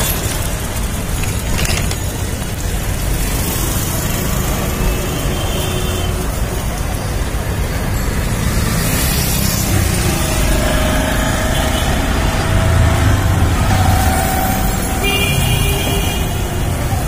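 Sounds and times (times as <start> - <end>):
motorbikes passing: 0.0 - 17.0
street traffic: 0.0 - 17.0.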